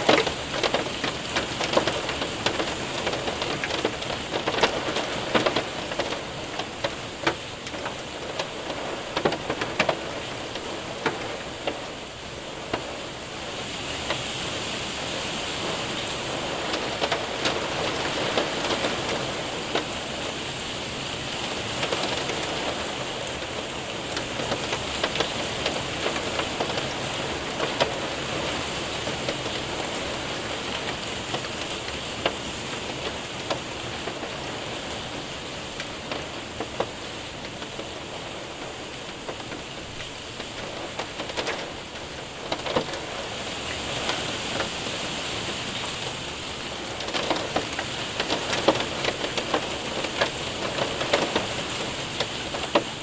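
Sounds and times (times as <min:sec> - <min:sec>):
hailstones ticking on window: 0:00.0 - 0:53.0
rain hiss: 0:00.0 - 0:53.0.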